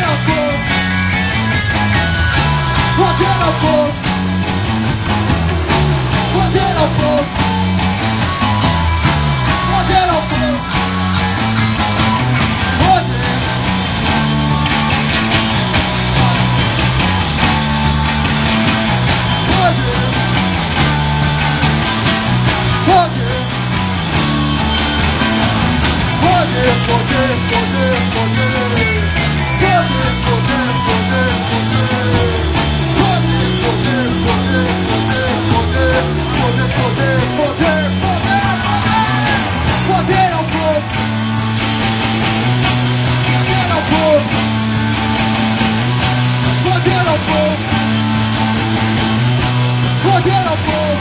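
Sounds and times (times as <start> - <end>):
bass guitar: 0.0 - 51.0
drums with steady beat: 0.0 - 51.0
electric guitar: 0.0 - 51.0
rock band playing live: 0.0 - 51.0.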